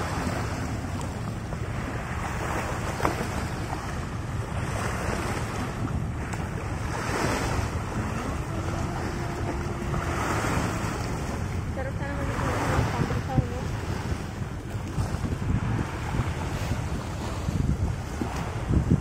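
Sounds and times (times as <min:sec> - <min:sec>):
waves splashing on rocky shore: 0:00.0 - 0:19.0
wind buffeting microphone: 0:00.0 - 0:19.0.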